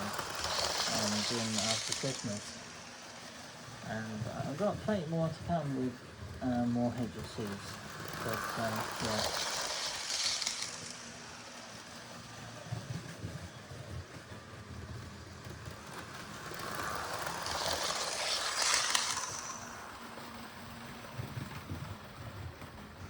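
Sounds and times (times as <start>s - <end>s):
model train clattering on track: 0.0s - 23.0s.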